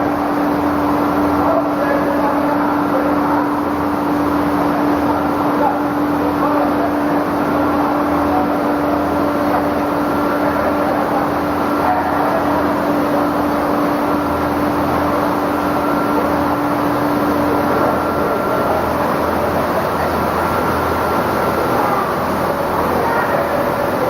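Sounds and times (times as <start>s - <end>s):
machinery running with hum: 0.0s - 24.0s.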